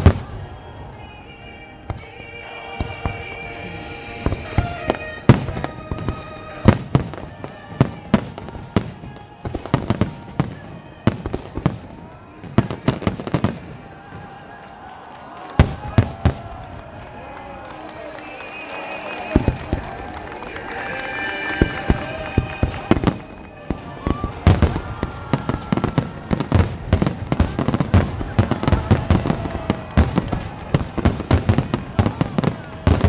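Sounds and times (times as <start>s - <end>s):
fireworks bursting: 0.0s - 1.0s, 1.9s - 33.0s.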